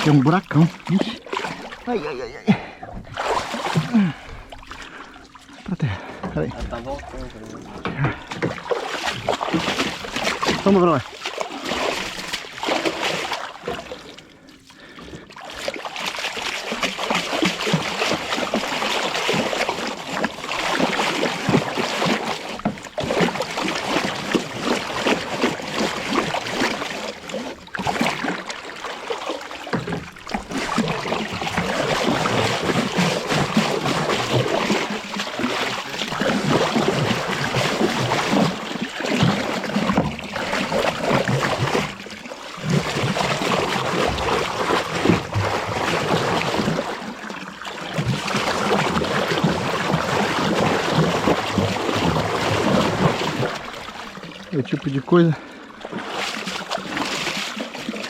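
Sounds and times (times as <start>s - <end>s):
water splashing against boat hull: 0.0s - 58.0s.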